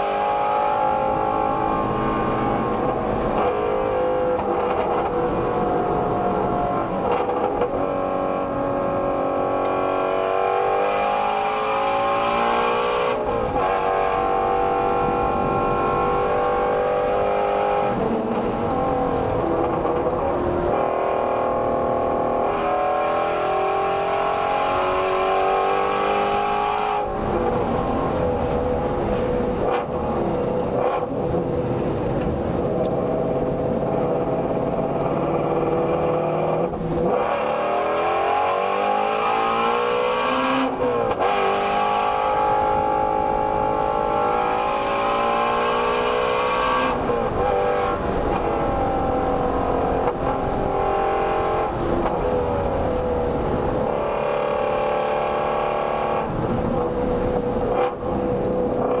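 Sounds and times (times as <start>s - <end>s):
car engine revving at full throttle: 0.0s - 59.0s.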